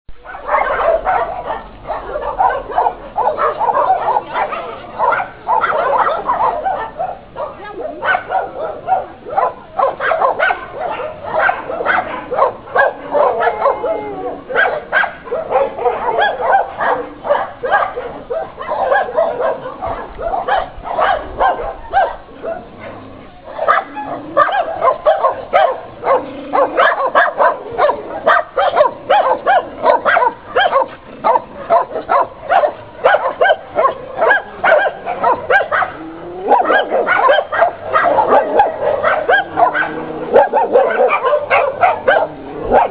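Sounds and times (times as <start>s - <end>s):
many dogs barking: 0.2s - 42.9s.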